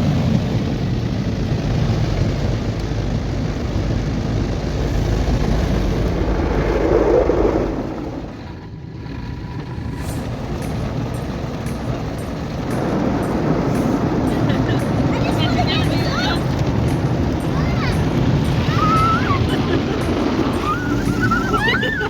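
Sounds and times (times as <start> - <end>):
car wash brushes and water: 0.0 - 22.0.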